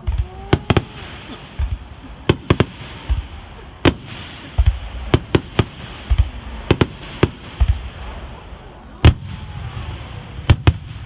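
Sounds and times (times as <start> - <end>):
fireworks booms and cracks: 0.0 - 11.0.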